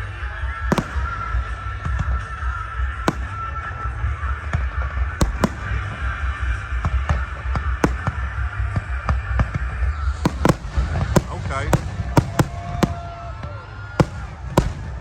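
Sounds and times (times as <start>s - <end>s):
fireworks bangs: 0.5s - 15.0s.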